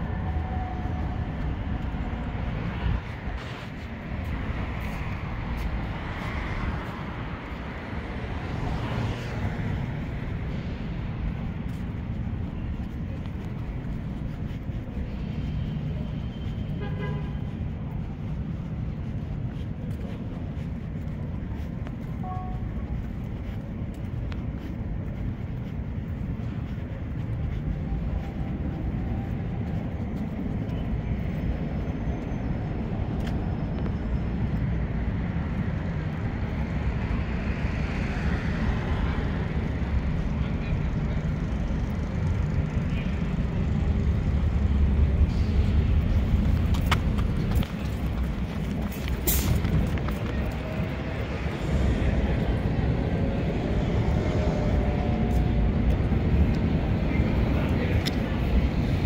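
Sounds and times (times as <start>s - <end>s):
bus passing: 0.0s - 59.0s
traffic rumble: 0.0s - 59.0s.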